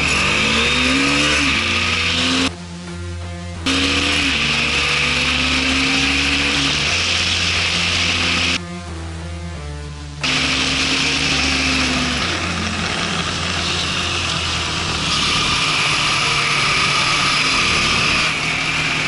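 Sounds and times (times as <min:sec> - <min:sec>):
motorcycle engine accelerating: 0:00.0 - 0:02.6, 0:03.6 - 0:08.6, 0:10.2 - 0:19.0.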